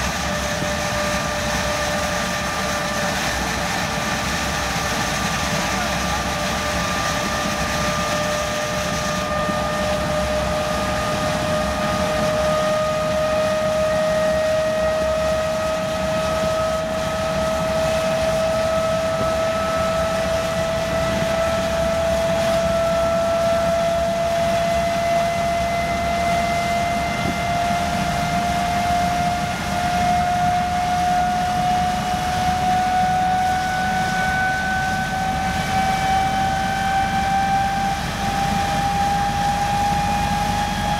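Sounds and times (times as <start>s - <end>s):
engine whine rising in pitch: 0.0s - 40.9s.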